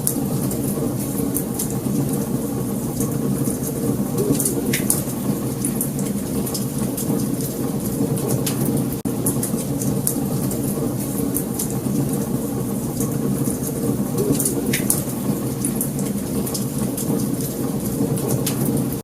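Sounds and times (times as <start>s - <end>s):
flames rumbling: 0.0s - 19.0s
wood fire crackling and popping: 0.0s - 19.0s.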